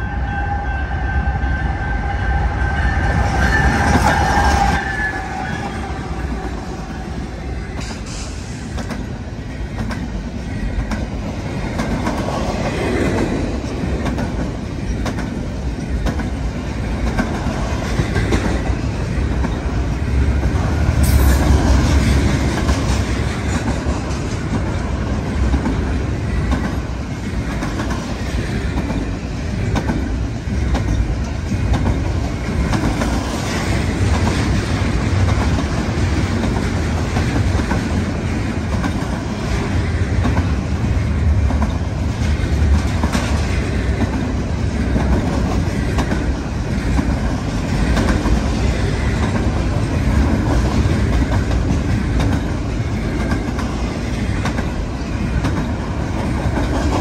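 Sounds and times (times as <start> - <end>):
freight train rumbling past: 0.0 - 57.0
wheels clacking on rails: 2.3 - 57.0.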